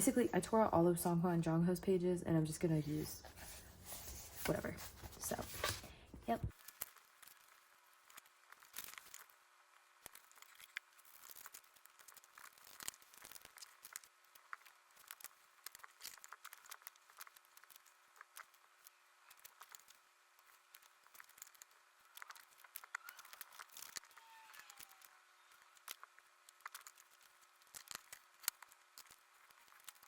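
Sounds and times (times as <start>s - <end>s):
paper rustling and crinkling: 2.8s - 9.4s, 10.0s - 30.0s.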